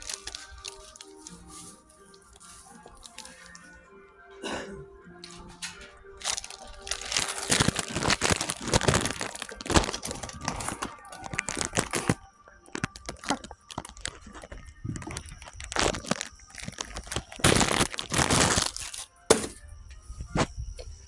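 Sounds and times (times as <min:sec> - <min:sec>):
dense crackling and crinkling: 0:00.0 - 0:21.0.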